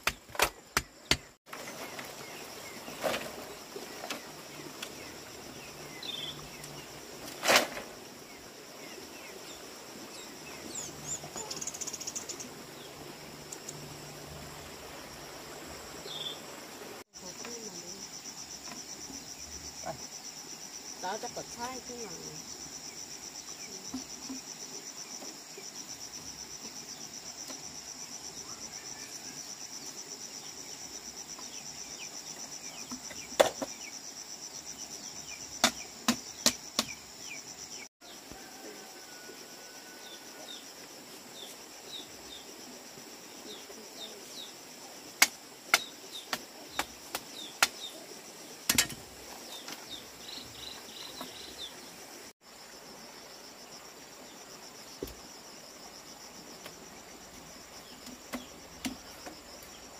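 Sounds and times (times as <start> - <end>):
insect chorus buzzing: 0.0 - 59.9.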